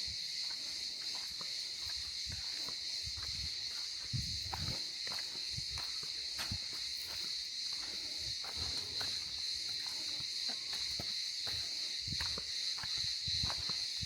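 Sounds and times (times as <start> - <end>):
cicadas chirring: 0.0 - 14.0
footsteps: 0.4 - 14.0.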